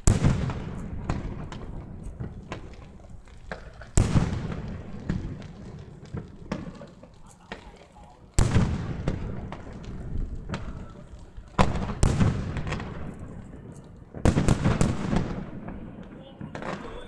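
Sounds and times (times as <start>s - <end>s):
fireworks bangs with rumbling echo: 0.0s - 17.0s.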